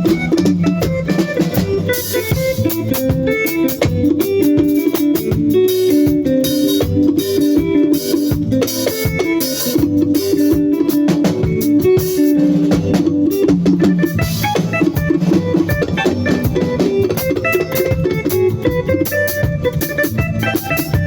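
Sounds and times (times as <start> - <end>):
band with guitar and drums: 0.0 - 21.0.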